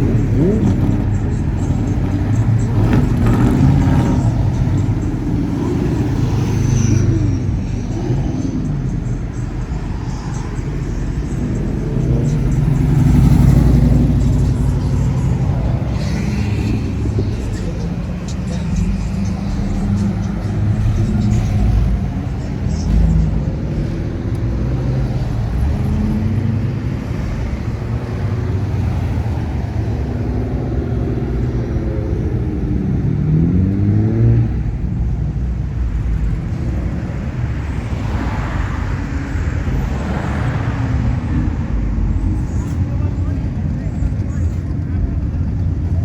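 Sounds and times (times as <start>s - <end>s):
car engine revving: 0.0s - 46.0s
car engines rumbling past: 0.0s - 46.0s.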